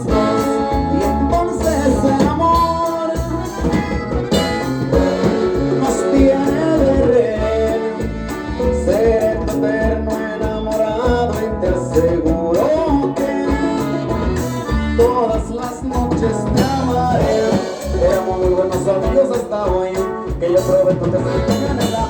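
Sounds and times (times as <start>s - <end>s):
latin band playing through pa: 0.0s - 22.0s.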